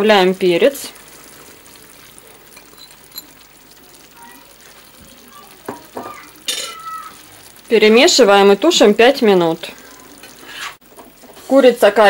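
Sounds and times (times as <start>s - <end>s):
curry sizzling in a pan: 0.0s - 12.0s.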